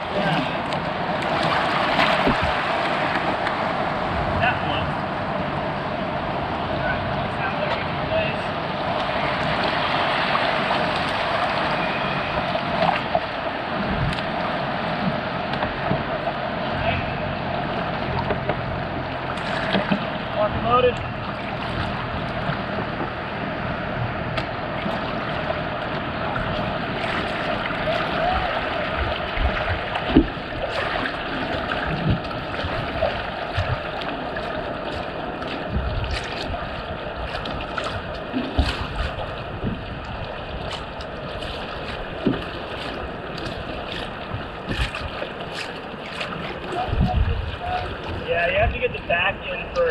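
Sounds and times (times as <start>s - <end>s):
ocean surf rushing: 0.0s - 49.9s.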